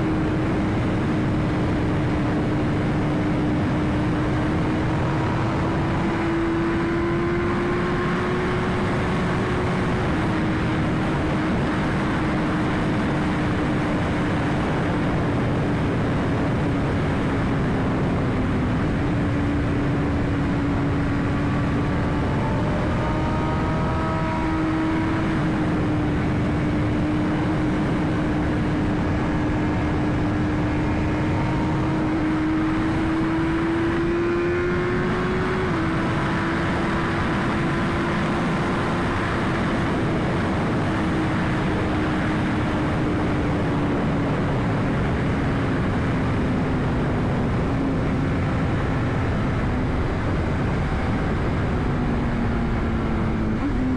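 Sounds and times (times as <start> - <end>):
heavy wind rush: 0.0 - 53.9.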